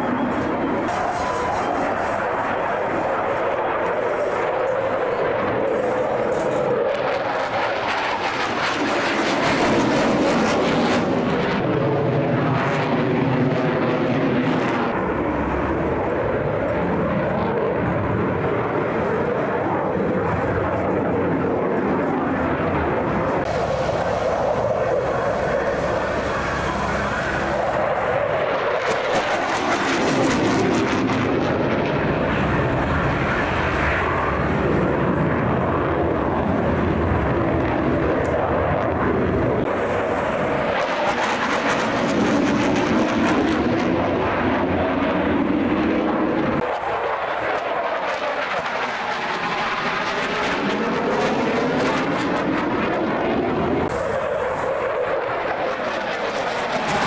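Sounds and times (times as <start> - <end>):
jet aircraft engine roar: 0.0 - 57.0.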